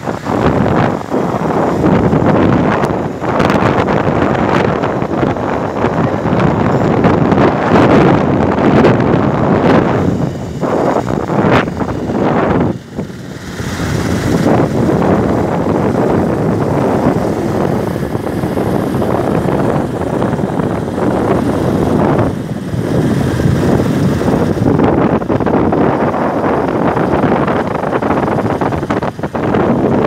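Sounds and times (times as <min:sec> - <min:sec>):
motorcycle engines: 0:00.0 - 0:30.0
road noise: 0:00.0 - 0:30.0
wind rushing over microphone: 0:00.0 - 0:30.0.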